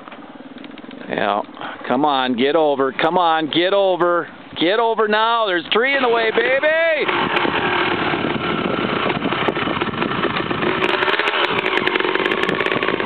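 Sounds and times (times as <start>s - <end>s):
dirt bike engine: 0.0s - 13.0s.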